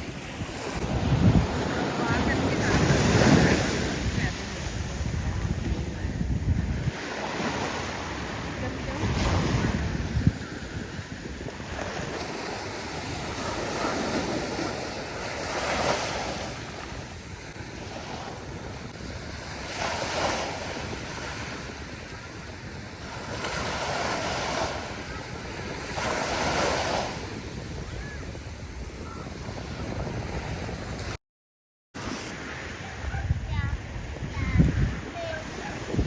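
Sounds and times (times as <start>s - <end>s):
sea waves breaking on a beach: 0.0s - 31.2s, 32.0s - 36.0s
wind rumbling on the microphone: 0.0s - 31.2s, 32.0s - 36.0s.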